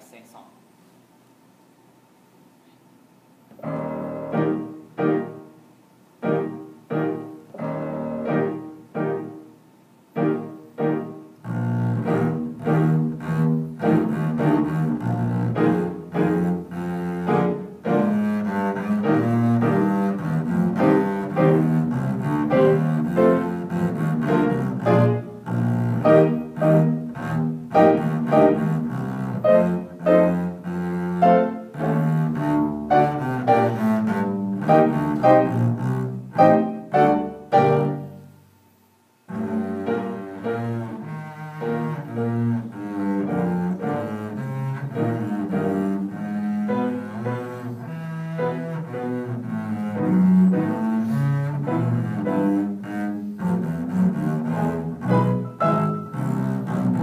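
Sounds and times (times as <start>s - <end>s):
piano chords: 3.5s - 38.4s, 39.3s - 57.0s
double bass bowing melody: 3.5s - 57.0s.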